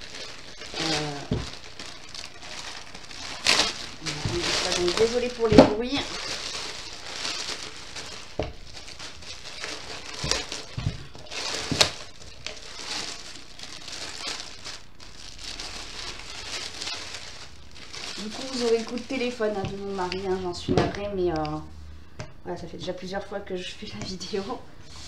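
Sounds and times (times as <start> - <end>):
plastic bag crinkling: 0.0 - 21.4.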